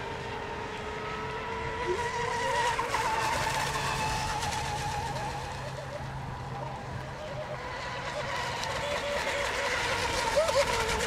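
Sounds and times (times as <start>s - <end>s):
small boat engines whining: 0.0s - 11.0s.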